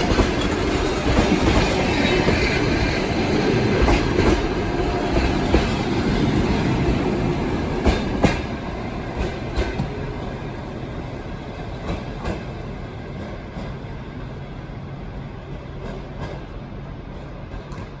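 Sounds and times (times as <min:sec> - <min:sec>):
train wheels clacking over rail joints: 0:00.0 - 0:10.0, 0:11.5 - 0:13.9, 0:15.7 - 0:18.0
train rumble: 0:00.0 - 0:18.0.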